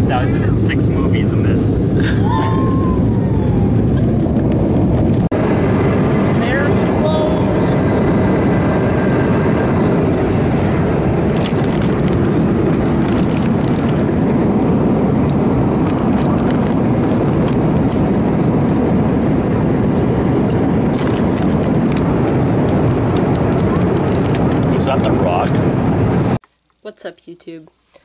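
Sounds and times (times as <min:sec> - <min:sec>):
airliner cabin engine and airflow noise: 0:00.0 - 0:26.4.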